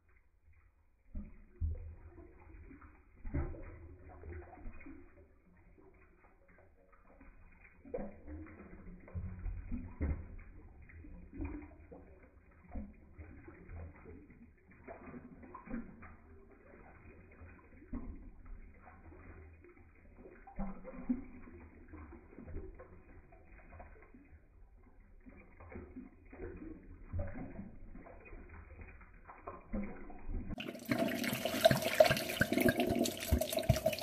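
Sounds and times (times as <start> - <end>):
water pouring into drain: 0.0 - 34.0
water gurgling out of bottle: 1.2 - 34.0.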